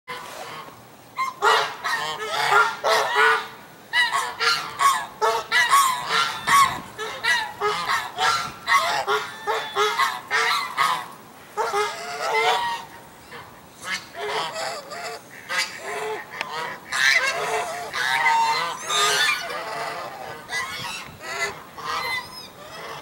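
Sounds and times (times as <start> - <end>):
geese honking: 0.1 - 23.0.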